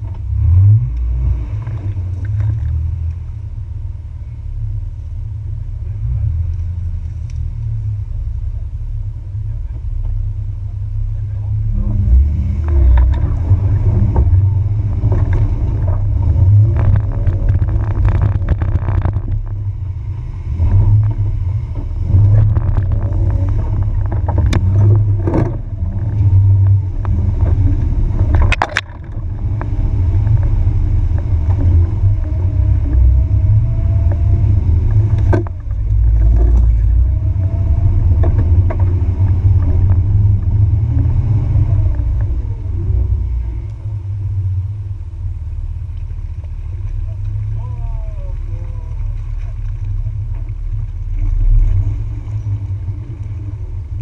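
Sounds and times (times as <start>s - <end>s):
vehicle engine low rumble: 0.0s - 54.0s.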